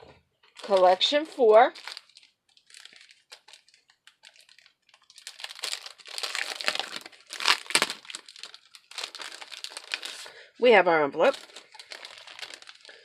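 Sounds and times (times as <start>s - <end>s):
packaging crinkling and rustling: 0.4s - 10.4s, 11.2s - 13.0s.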